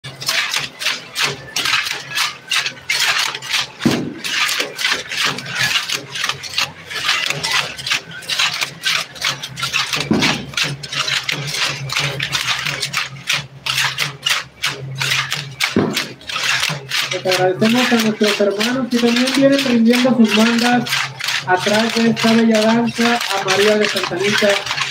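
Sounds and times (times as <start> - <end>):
rattles shaken rhythmically: 0.0 - 24.9
crowd noise: 0.1 - 12.2, 12.9 - 24.9.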